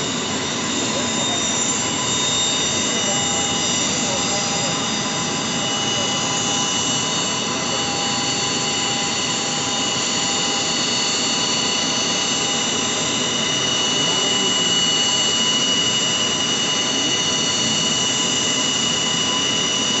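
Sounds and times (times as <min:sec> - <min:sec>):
high whining tones: 0:00.0 - 0:20.0
jet engines roaring: 0:00.0 - 0:20.0.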